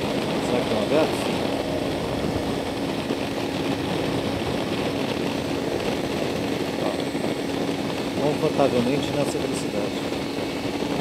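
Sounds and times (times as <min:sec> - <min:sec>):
motorcycle engine cruising: 0:00.0 - 0:11.0
road noise: 0:00.0 - 0:11.0
wind noise: 0:00.0 - 0:11.0.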